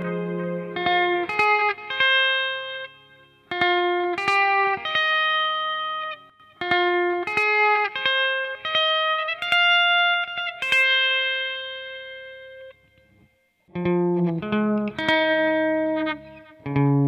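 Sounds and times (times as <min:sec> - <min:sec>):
electric guitar riff: 0:00.0 - 0:17.0.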